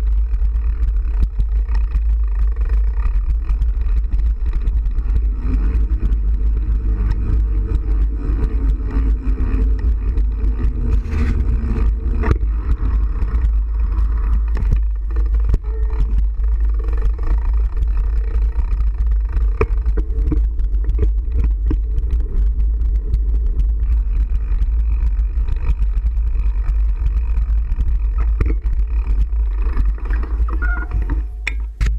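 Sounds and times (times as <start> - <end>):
vehicle engine rumbling: 0.0 - 31.9.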